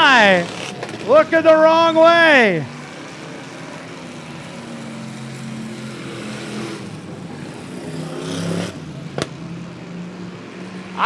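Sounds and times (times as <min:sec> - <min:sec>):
race car engines running: 0:00.0 - 0:11.0.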